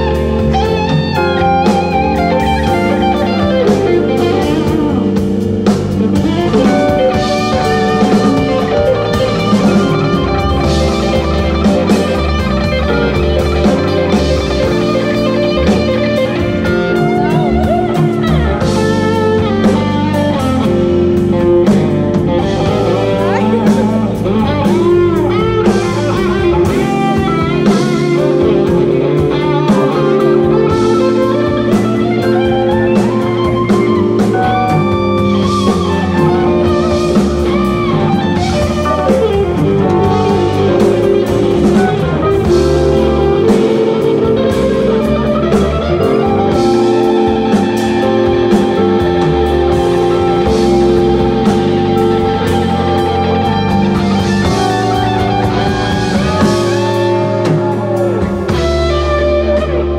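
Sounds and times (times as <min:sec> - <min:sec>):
drum kit: 0:00.0 - 0:59.9
electric bass: 0:00.0 - 0:59.9
electric guitar lead melody: 0:00.0 - 0:59.9.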